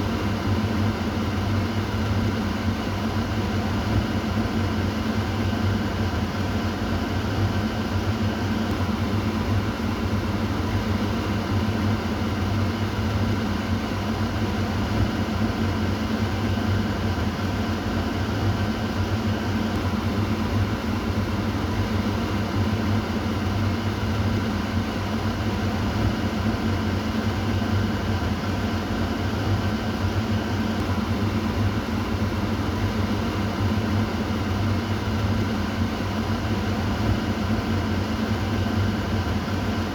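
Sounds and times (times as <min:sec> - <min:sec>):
exhaust fan running: 0:00.0 - 0:39.9.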